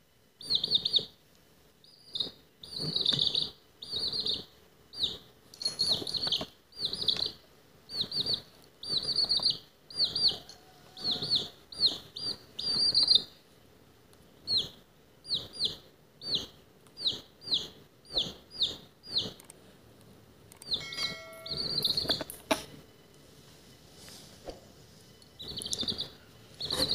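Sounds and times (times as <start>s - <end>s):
baby chick peeping: 0.4s - 1.2s, 1.8s - 13.4s, 14.4s - 19.6s, 20.5s - 22.8s, 25.2s - 26.9s.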